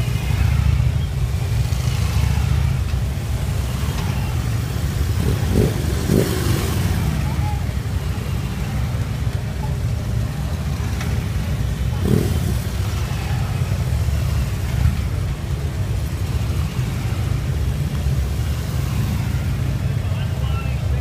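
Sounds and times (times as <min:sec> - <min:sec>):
motorcycles riding past slowly: 0:00.0 - 0:21.0.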